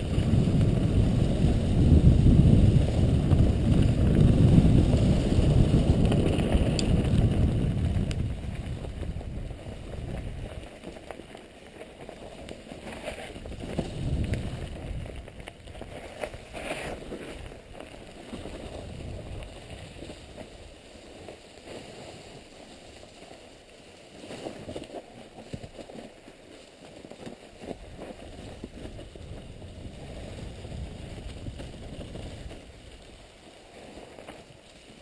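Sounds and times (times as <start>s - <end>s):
bike rattling over bumps: 0.0s - 23.0s, 24.2s - 35.0s
wind rumble on microphone: 0.0s - 23.2s, 27.2s - 35.0s
tyres crunching over gravel and leaves: 0.0s - 35.0s.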